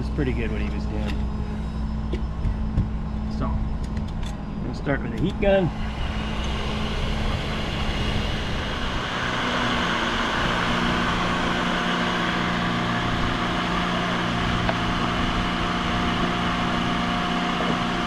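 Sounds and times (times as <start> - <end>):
heat gun fan whirring: 0.0 - 18.0.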